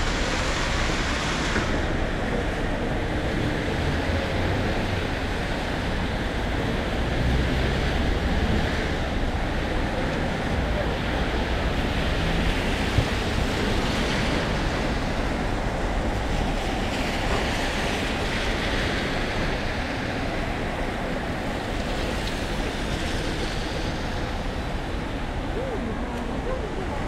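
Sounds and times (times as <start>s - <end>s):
rain falling: 0.0s - 27.0s
traffic on wet streets: 0.0s - 27.0s.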